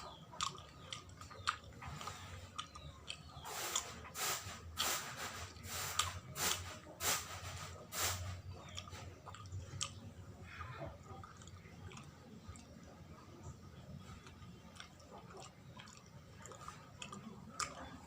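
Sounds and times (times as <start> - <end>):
close chewing of sticky sweet: 0.0 - 18.0.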